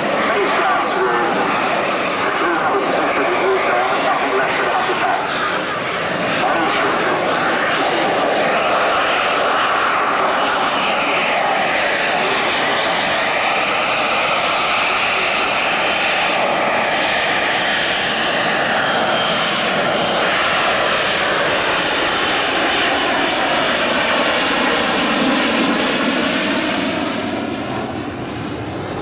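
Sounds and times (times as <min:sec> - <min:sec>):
loud aircraft engine: 0:00.0 - 0:29.0.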